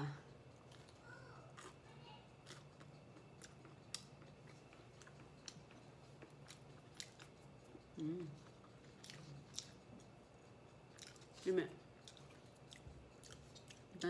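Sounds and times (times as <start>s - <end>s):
low steady hum: 0.0s - 14.0s
person chewing: 0.5s - 14.0s.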